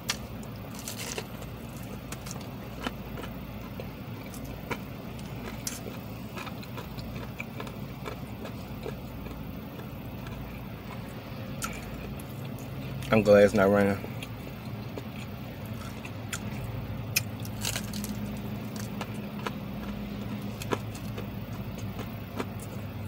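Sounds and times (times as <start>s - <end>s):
person chewing crunchy food: 0.0s - 13.2s, 13.8s - 23.0s
car engine idling: 0.0s - 23.0s.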